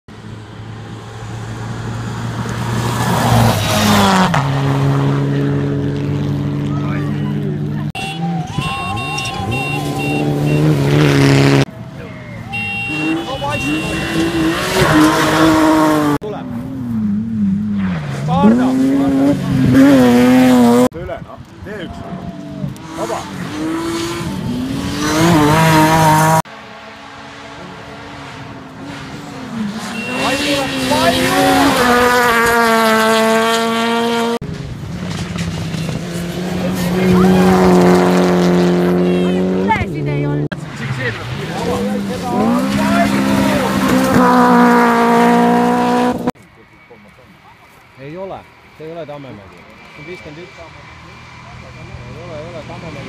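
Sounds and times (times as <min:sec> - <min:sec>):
rally car engine passing: 0:00.2 - 0:21.0, 0:21.9 - 0:46.4, 0:48.0 - 0:53.0.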